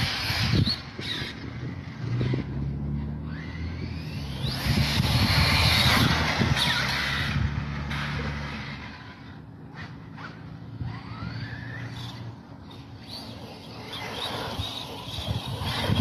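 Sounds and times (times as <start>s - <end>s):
vehicle speeding past: 0.0s - 16.0s.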